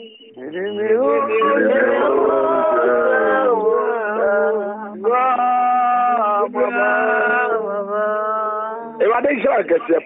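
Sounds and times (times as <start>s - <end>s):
man singing slowly: 0.0s - 9.0s.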